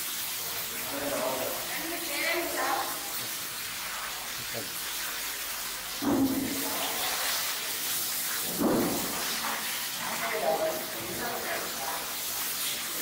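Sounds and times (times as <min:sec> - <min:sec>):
running water hissing: 0:00.0 - 0:13.0.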